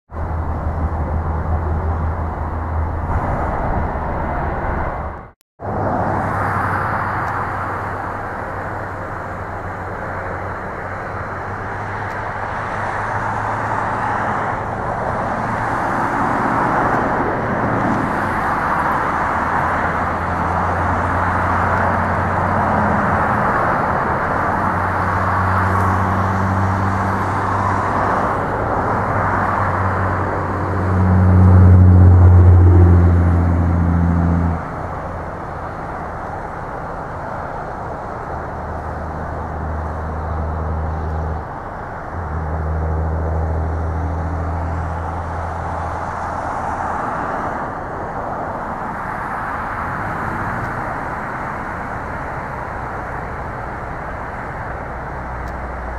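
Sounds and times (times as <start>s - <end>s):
distant engine roar: 0.1s - 55.9s
low engine hum: 0.1s - 55.9s.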